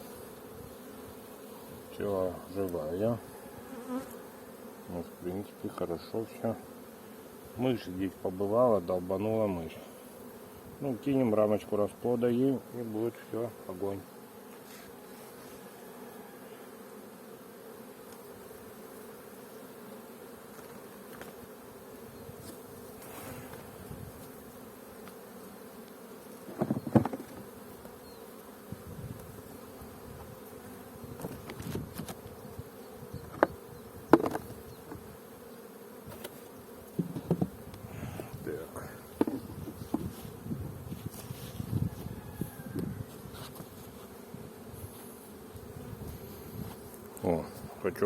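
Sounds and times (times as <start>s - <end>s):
honeybees humming: 0.0s - 48.0s.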